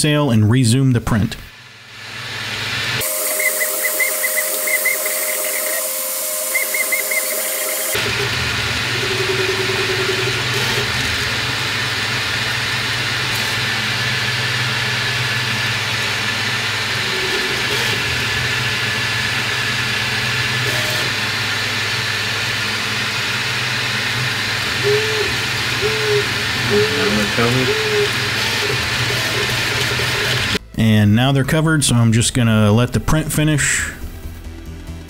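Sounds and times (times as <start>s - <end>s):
fan whirring: 1.5s - 35.0s
stepper motor whines: 1.8s - 30.6s.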